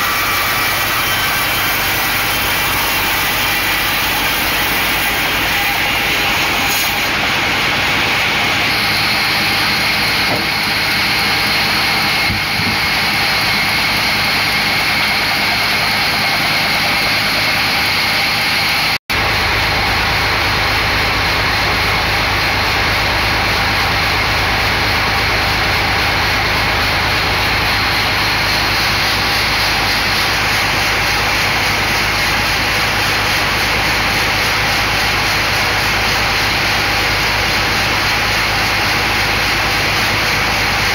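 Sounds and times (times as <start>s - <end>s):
band saw cutting log: 0.0s - 19.2s, 21.6s - 40.9s
machinery with low hum: 0.0s - 40.9s.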